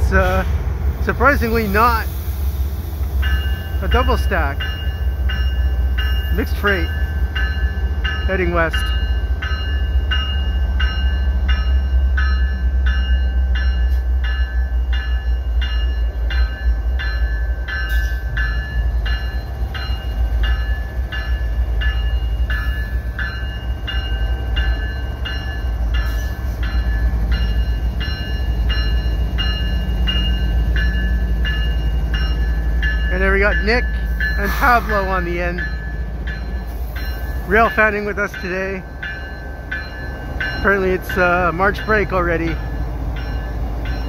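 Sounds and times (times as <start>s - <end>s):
locomotive bell ringing: 0.0s - 2.2s, 3.1s - 44.0s
diesel locomotive rumble: 0.0s - 44.0s.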